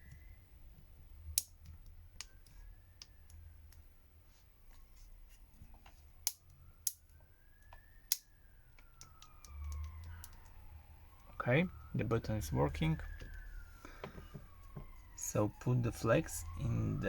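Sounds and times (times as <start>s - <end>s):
faint siren: 0.0s - 17.0s.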